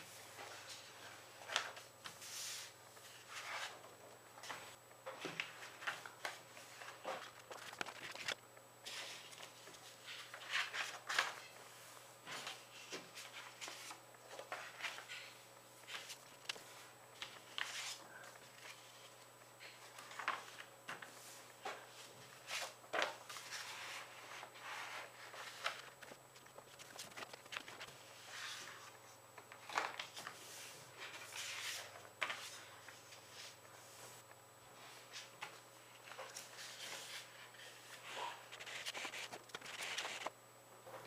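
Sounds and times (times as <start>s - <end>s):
paper rustling and crinkling: 0.3s - 11.6s, 12.2s - 34.2s, 34.9s - 40.3s.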